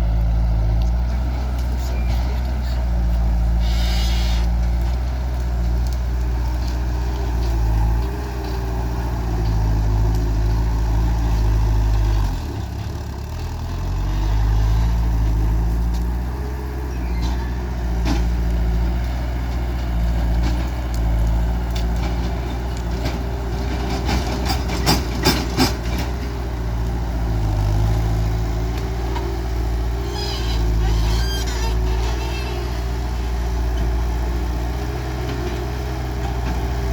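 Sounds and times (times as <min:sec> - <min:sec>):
diesel engine droning: 0:00.0 - 0:36.9.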